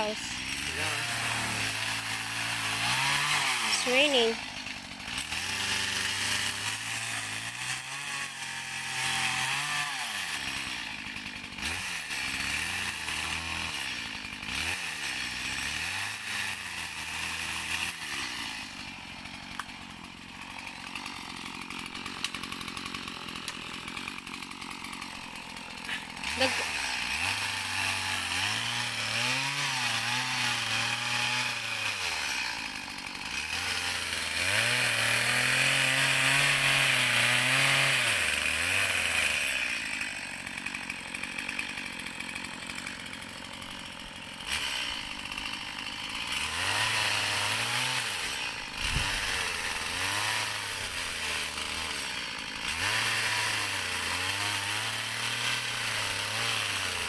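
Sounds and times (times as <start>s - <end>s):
chainsaw cutting tree: 0.0s - 57.0s.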